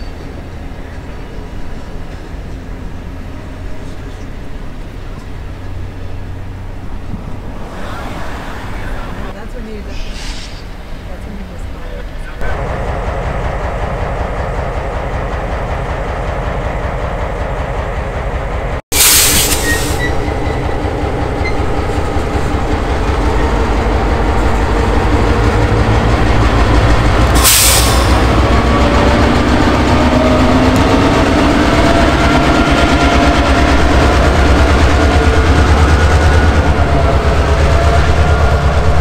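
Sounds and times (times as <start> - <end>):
diesel locomotive engine running: 0.0 - 39.0
wheels on rail: 0.0 - 39.0.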